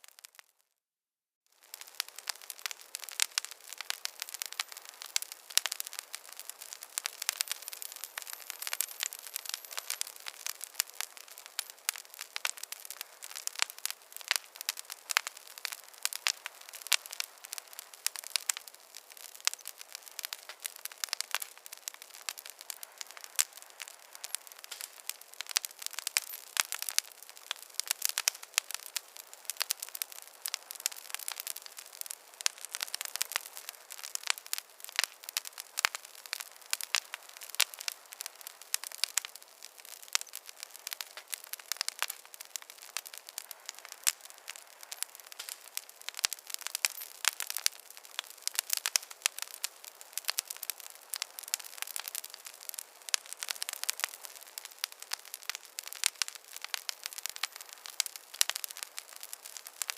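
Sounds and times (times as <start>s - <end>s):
wood fire crackling: 0.0s - 0.6s, 1.6s - 59.9s.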